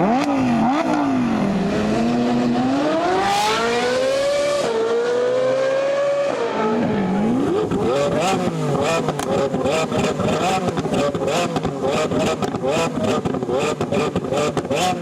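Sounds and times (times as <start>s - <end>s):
supercar engine accelerating: 0.0s - 15.0s.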